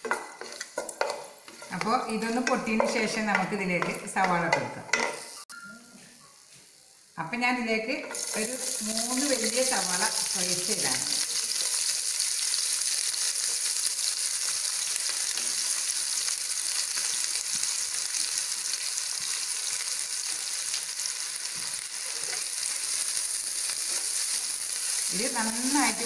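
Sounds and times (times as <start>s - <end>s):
onions sizzling in oil: 0.0s - 5.5s, 6.4s - 26.0s.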